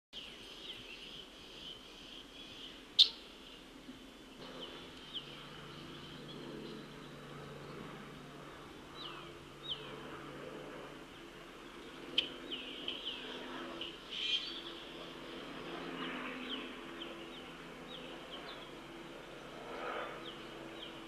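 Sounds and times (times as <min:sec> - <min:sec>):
songbirds chirping: 0:00.2 - 0:21.0.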